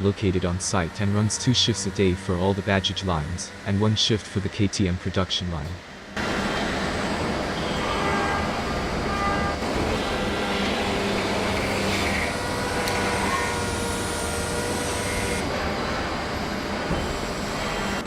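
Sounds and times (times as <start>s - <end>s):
factory machinery rumble: 0.0s - 18.0s.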